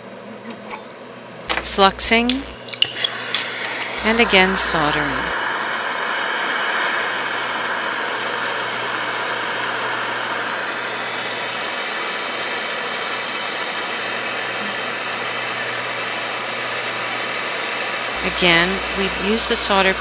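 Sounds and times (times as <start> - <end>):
gas torch hissing: 1.5 - 20.0.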